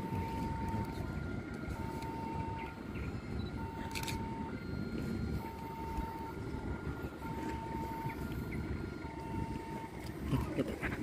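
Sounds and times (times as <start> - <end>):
electronic two-tone warning signal: 0.0 - 10.5
distant diesel locomotive rumble: 0.0 - 11.0.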